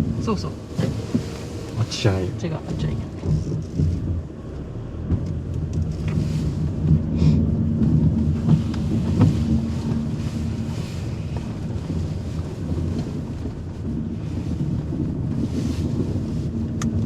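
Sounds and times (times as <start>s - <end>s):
car engine hum: 0.0s - 17.0s
road and tyre noise: 0.0s - 17.0s.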